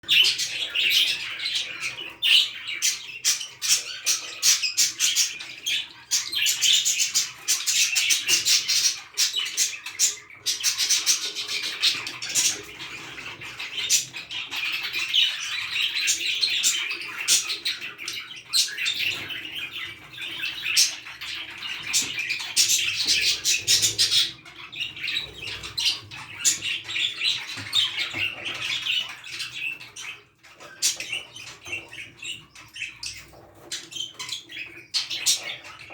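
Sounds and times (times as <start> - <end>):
budgerigars chattering and warbling: 0.0 - 35.9.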